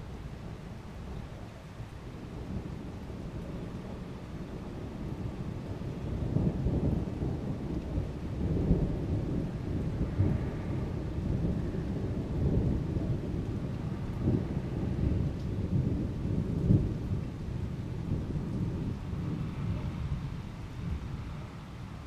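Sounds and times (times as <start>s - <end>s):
heavy rain falling: 0.0s - 22.0s
distant thunder rumbling: 2.2s - 22.0s.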